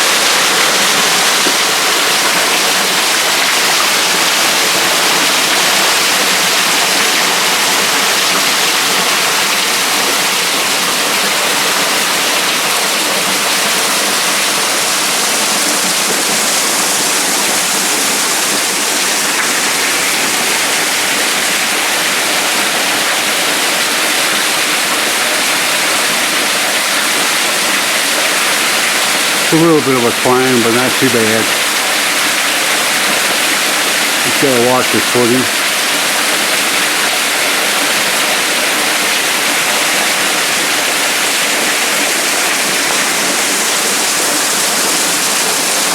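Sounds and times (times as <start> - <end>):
waterfall rushing over rock: 0.0 - 45.9.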